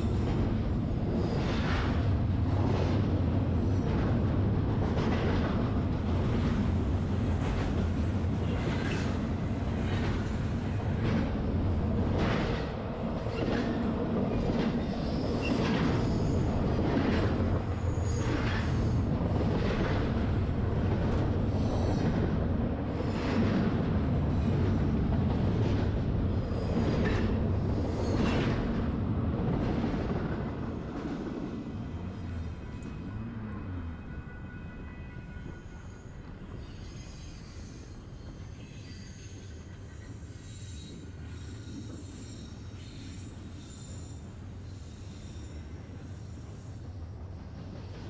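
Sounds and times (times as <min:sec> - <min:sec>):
freight train rumbling: 0:00.0 - 0:48.0.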